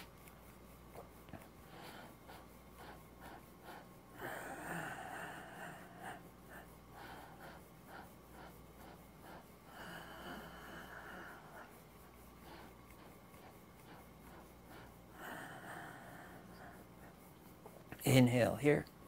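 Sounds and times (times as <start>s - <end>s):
faint breathing: 0.0s - 18.0s
rhythmic rustle of body shaking: 0.0s - 19.0s.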